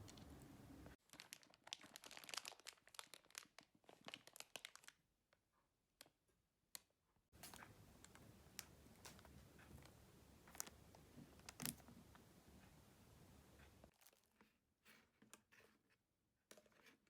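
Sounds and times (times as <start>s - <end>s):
faint crackling and crinkling: 0.0s - 17.0s.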